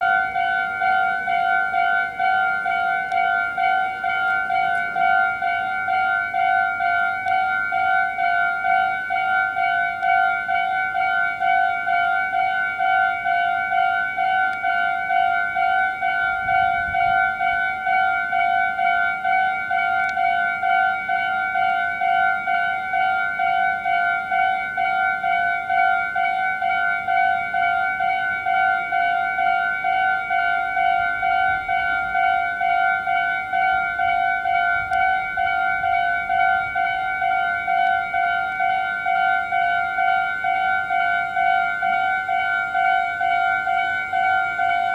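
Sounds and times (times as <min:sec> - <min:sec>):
level crossing warning bell: 0:00.0 - 0:44.9.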